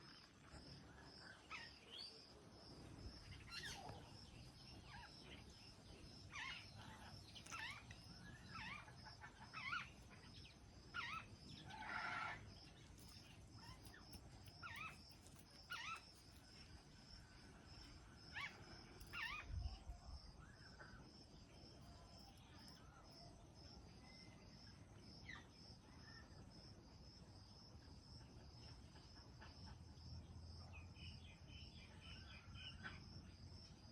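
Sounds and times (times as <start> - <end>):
insects chirping: 0.0 - 33.9.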